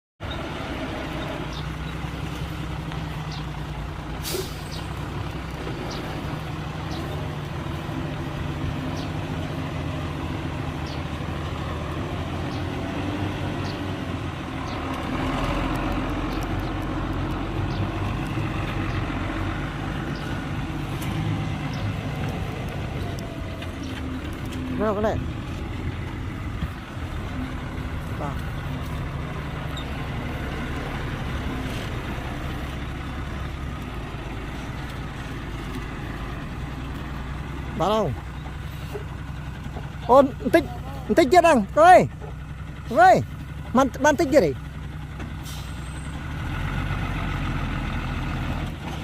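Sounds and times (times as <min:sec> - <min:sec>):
heavy diesel engine running: 0:00.2 - 0:49.0.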